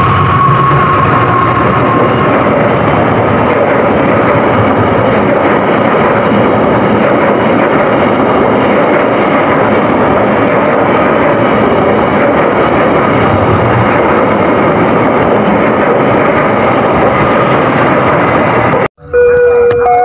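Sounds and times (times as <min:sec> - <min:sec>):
loud train rumble: 0:00.0 - 0:20.0.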